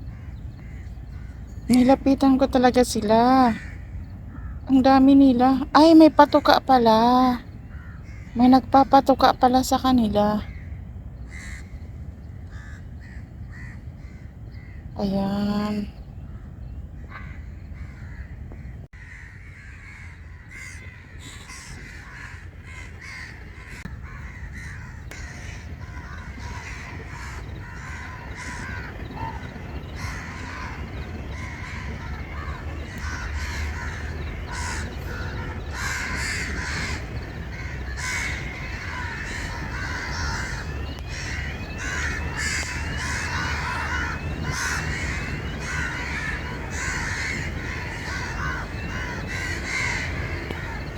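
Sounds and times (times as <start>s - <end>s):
flock of birds calling: 0.0s - 50.9s.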